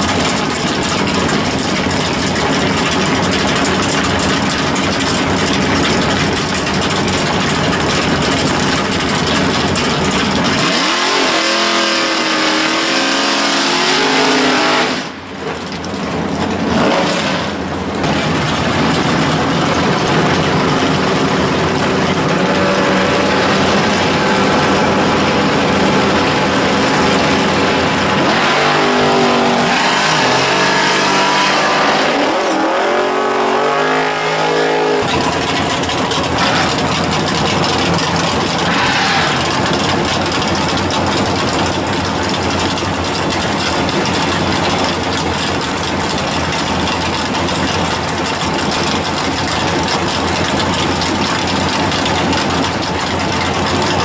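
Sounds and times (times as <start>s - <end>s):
drag car engines revving: 0.0s - 54.0s.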